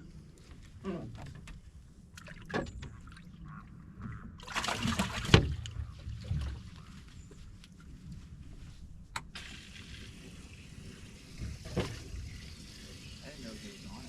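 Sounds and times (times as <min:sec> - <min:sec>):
water splashing around boat: 0:00.8 - 0:08.6, 0:09.3 - 0:14.0.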